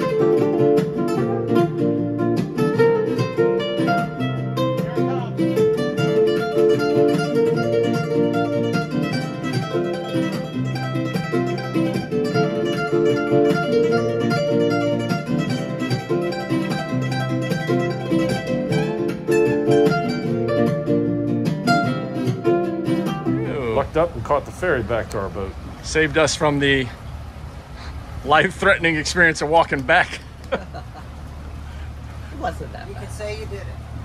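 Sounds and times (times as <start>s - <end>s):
nylon-string guitar fingerpicking: 0.0s - 32.2s.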